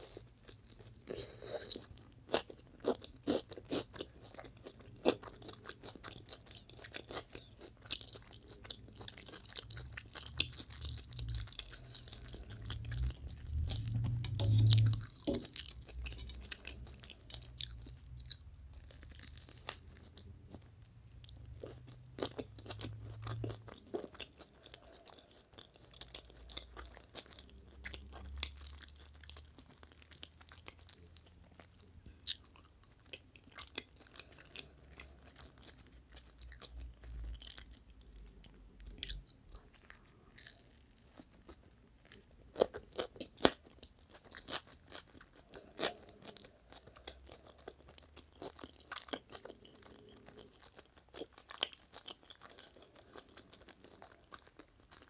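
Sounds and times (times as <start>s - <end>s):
crunchy chewing of toast: 0.0s - 55.0s.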